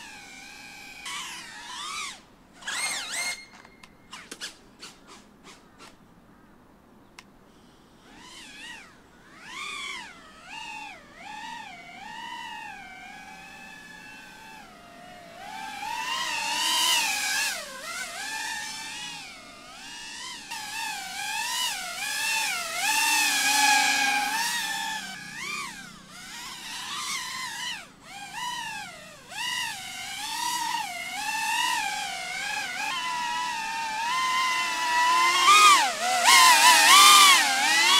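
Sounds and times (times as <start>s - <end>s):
drone propellers whining: 0.0s - 4.6s, 7.6s - 37.9s.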